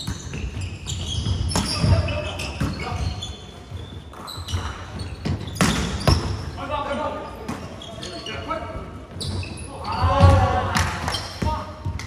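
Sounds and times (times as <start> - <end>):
shoe squeaks: 0.0 - 10.4, 11.1 - 11.7.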